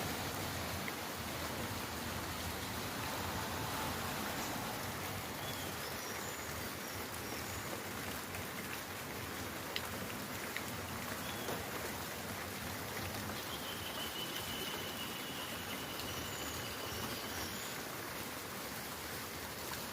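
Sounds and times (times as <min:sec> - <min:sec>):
steady rain: 0:00.0 - 0:19.9.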